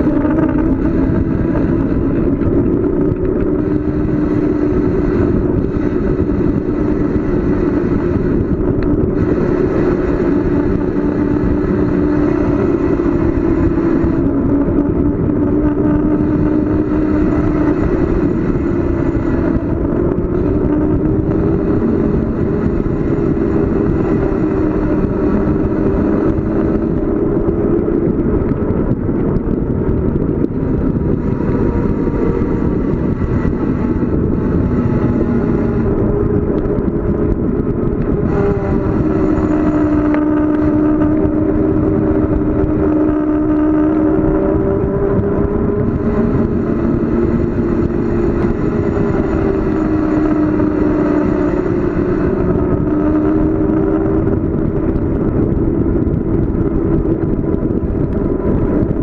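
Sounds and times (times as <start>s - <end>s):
wavering hum: 0.0s - 59.0s
wind rushing over microphone: 0.0s - 59.0s.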